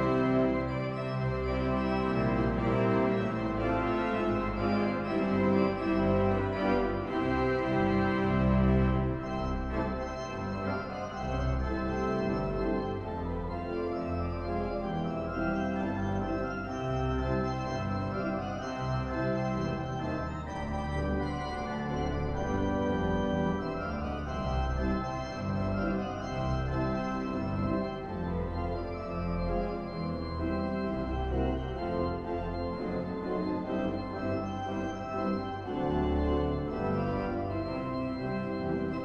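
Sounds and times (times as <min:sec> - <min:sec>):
pipe organ chords: 0:00.0 - 0:39.0.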